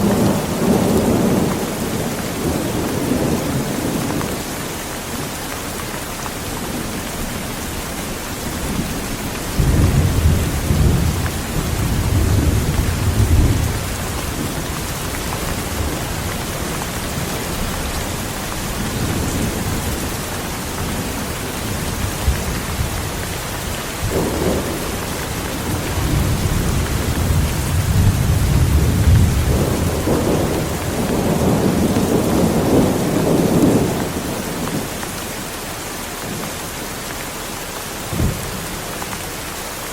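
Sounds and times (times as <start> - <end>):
thunder rumbling: 0.0 - 5.4, 6.4 - 35.0
heavy rain falling: 0.0 - 39.9.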